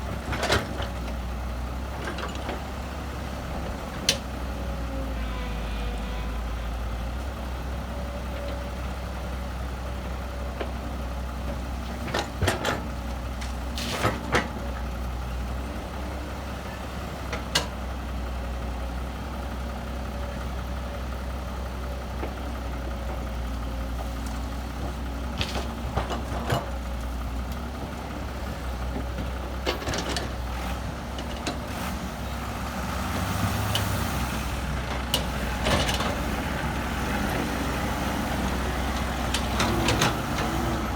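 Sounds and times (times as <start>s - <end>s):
heavy diesel machinery rumbling: 0.0s - 40.9s.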